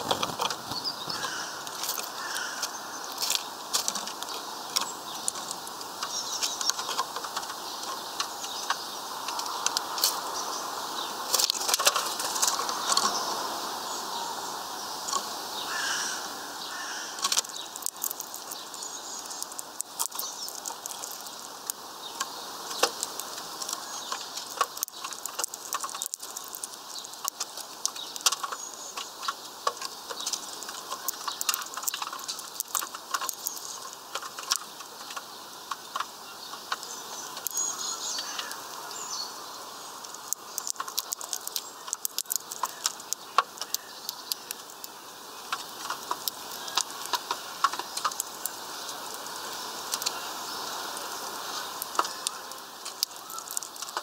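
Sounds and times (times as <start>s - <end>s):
bird cracking seeds: 0.0s - 13.6s, 15.0s - 54.0s.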